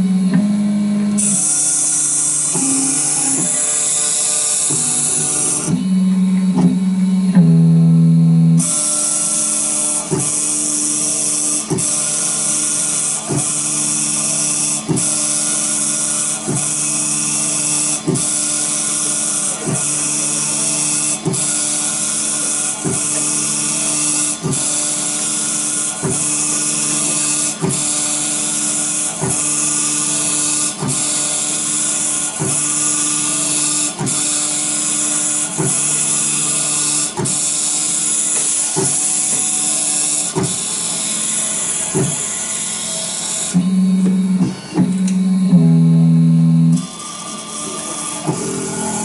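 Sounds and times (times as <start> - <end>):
polishing machine high whine: 0.0 - 49.0.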